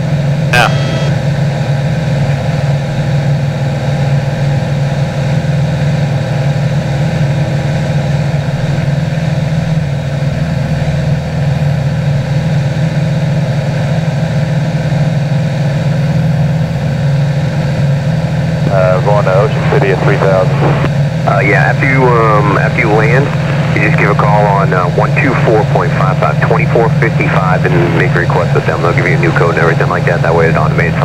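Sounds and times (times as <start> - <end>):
aircraft engine and propeller drone: 0.0 - 31.0.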